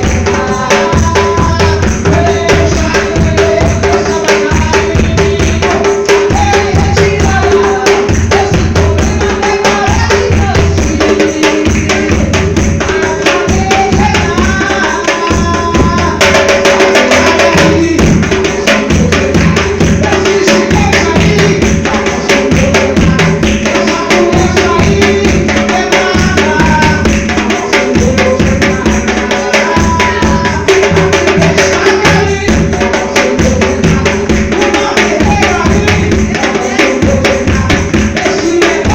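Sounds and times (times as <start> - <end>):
bass drum marking the beat: 0.0 - 38.9
hand drums playing: 0.0 - 38.9.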